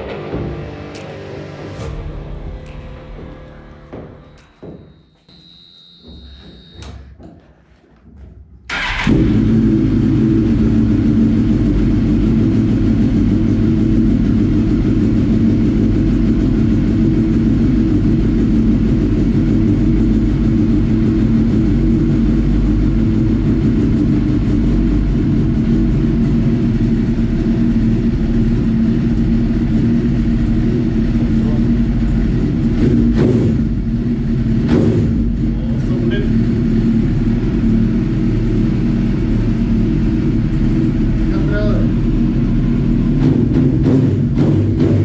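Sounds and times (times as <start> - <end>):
motorcycle engine starting and idling: 8.7 - 45.0.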